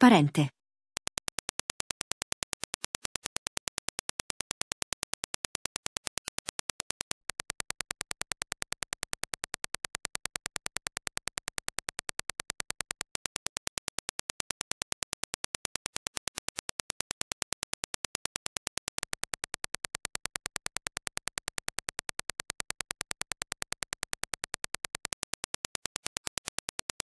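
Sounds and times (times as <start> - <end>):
rapid sharp test clicks: 1.0 - 27.0.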